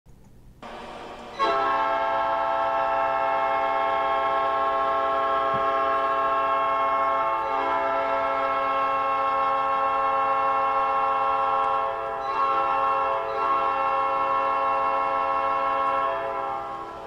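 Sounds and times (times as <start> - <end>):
hockey goal horn: 0.6 - 17.0.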